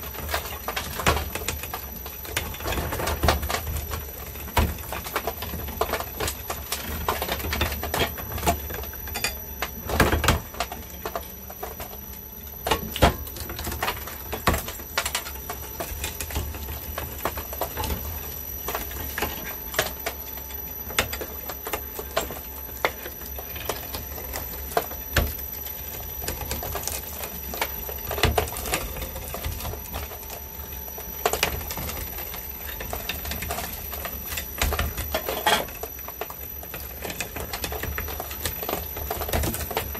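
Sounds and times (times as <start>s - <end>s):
masonry cracking and snapping: 0.0s - 39.9s
shredder motor hum: 0.0s - 39.9s.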